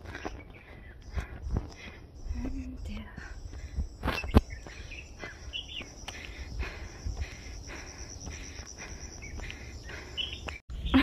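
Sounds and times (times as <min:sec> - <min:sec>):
bird chirps: 0:00.1 - 0:11.0
insects trilling: 0:00.5 - 0:11.0.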